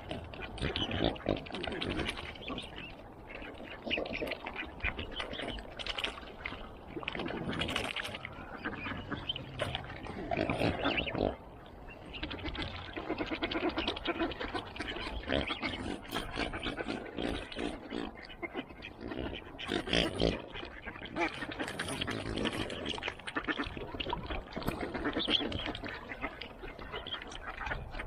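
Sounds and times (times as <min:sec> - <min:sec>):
ducks quacking: 0:00.0 - 0:28.0.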